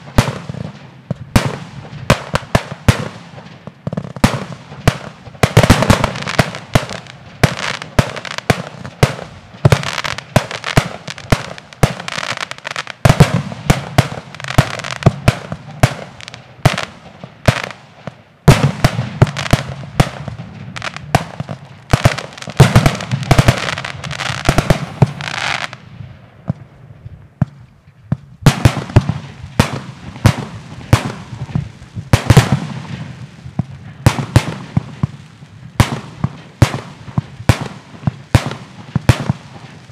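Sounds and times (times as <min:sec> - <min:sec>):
fireworks launching and bursting: 0:00.0 - 0:39.9.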